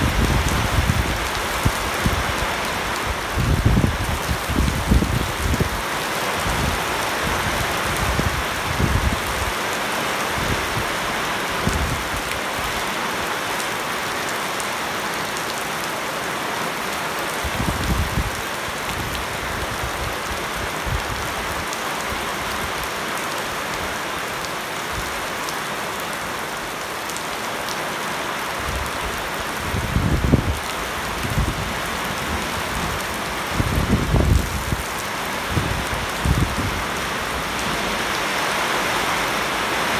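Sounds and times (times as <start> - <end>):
heavy rain on shrubs and water: 0.0 - 39.9.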